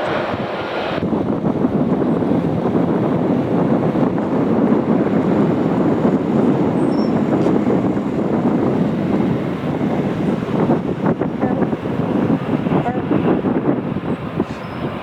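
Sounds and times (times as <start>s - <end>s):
jet engines rushing: 0.0s - 15.0s
wind buffeting microphone: 0.0s - 15.0s.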